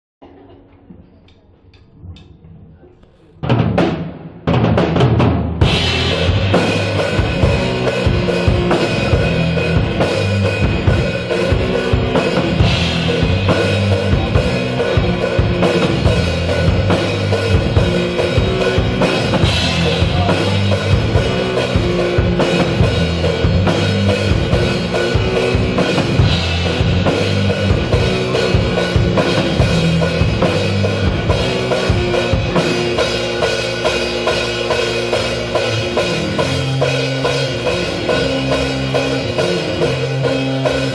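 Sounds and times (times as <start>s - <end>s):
instrumental rock music: 3.5s - 40.9s.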